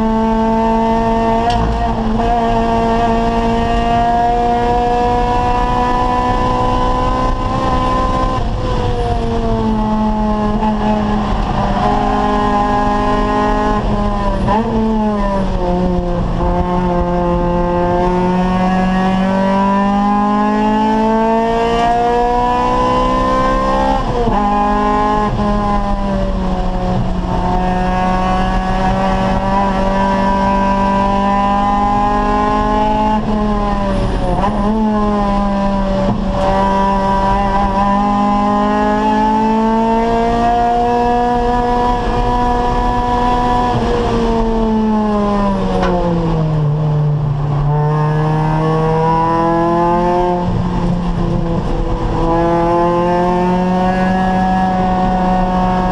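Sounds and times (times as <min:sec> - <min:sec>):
race car engine revving high: 0:00.0 - 0:55.9.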